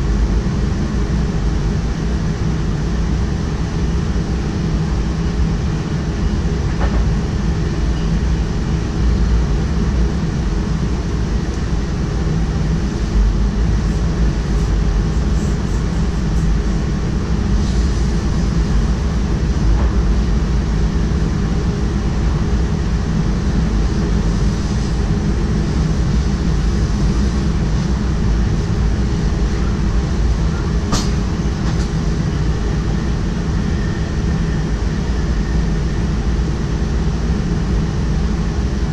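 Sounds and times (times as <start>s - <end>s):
train cab low rumble: 0.0s - 38.9s.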